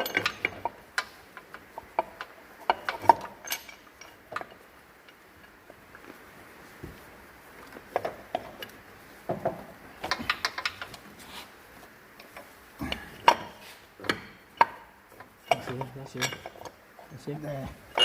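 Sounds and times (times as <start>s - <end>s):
tools and engine parts clinking: 0.0s - 6.1s, 7.6s - 11.1s, 12.1s - 18.0s.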